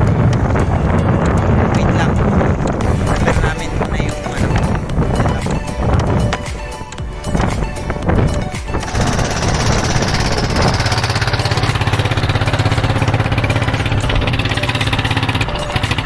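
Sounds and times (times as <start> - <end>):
boat engine pulsing: 0.0 - 16.0.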